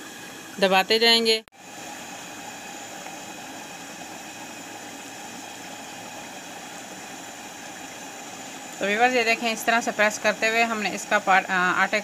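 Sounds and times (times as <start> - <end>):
faint machine hum: 0.0 - 12.0.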